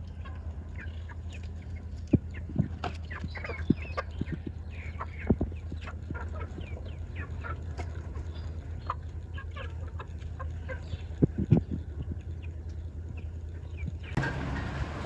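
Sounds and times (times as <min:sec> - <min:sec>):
chickens clucking: 0:00.0 - 0:15.0
low hum: 0:00.0 - 0:15.0.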